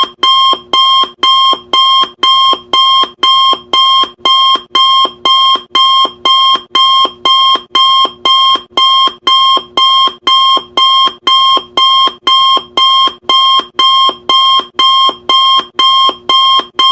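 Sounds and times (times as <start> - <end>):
timer alarm beeping: 0.0 - 16.9.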